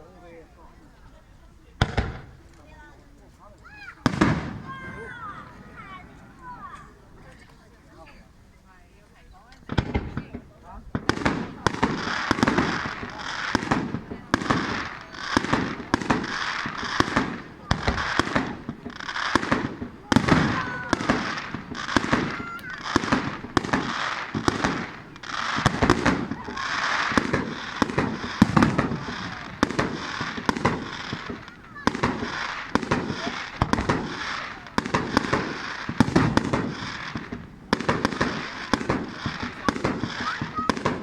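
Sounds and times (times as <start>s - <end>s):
fireworks bursting: 0.0s - 8.2s, 9.2s - 41.0s
fireworks crackling: 0.0s - 41.0s.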